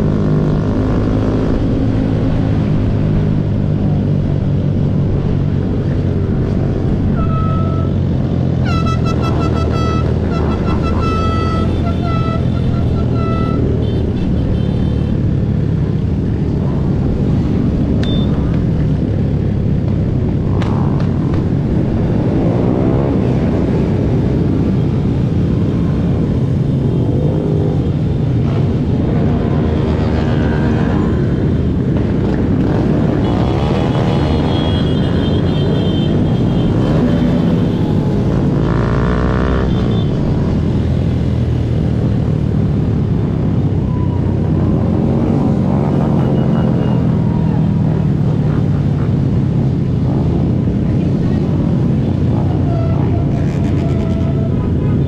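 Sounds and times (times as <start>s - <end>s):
motorcycle engines droning: 0.0s - 55.0s
motorcycle revving: 0.0s - 55.0s.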